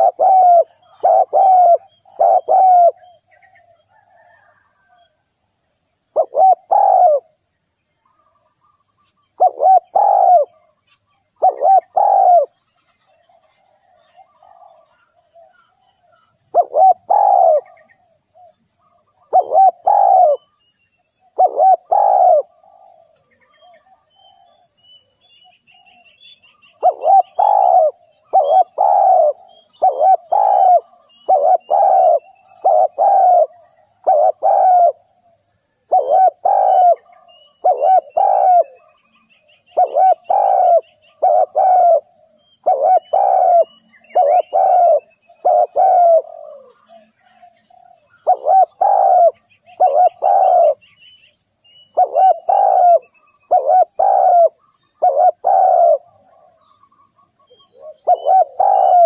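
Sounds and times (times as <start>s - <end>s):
dove cooing: 0.0s - 5.1s, 6.1s - 7.4s, 9.4s - 20.6s, 21.3s - 24.7s, 26.7s - 39.1s, 39.7s - 50.8s, 51.9s - 56.8s, 57.4s - 59.0s.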